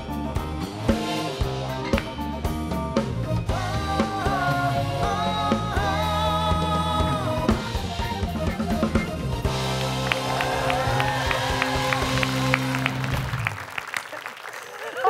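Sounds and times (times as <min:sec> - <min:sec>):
drum kit beat: 0:00.0 - 0:13.6
held melody line: 0:00.0 - 0:13.6
bass: 0:00.0 - 0:13.9.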